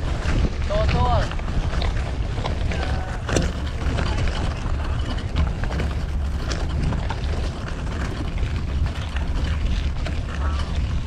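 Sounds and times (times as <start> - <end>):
road noise: 0.0 - 11.0
wind on microphone: 0.0 - 11.0.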